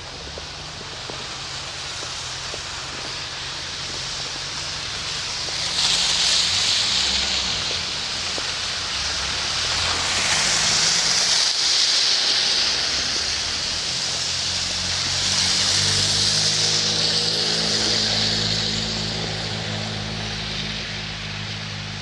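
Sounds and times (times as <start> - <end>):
tyres hissing on wet street: 0.0 - 22.0.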